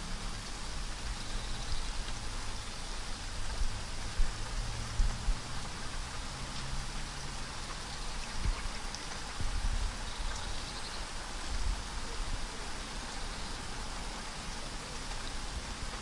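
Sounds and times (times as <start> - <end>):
rain on leaves: 0.0 - 16.0.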